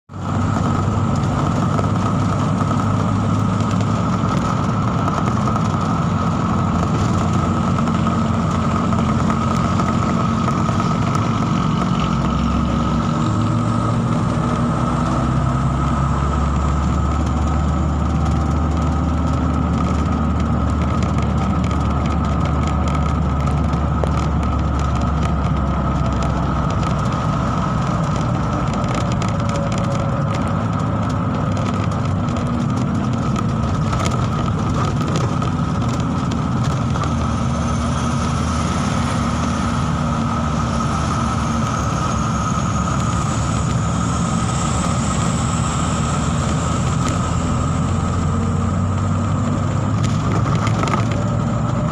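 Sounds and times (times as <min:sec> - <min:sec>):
constant high whine: 0:00.0 - 0:51.9
engine drone: 0:00.0 - 0:51.9.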